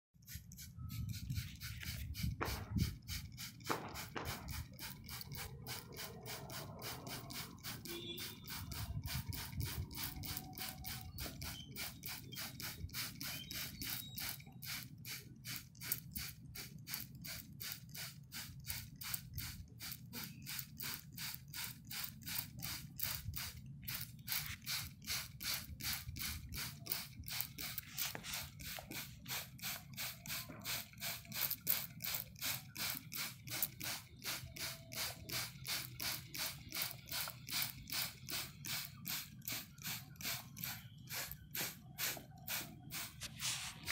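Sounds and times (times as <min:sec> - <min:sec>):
spray bottle spritzing leaves: 0:00.2 - 0:43.9.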